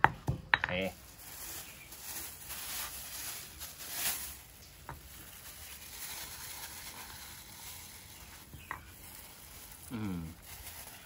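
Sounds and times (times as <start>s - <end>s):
salad rustling and squishing in bowl: 1.0s - 11.0s.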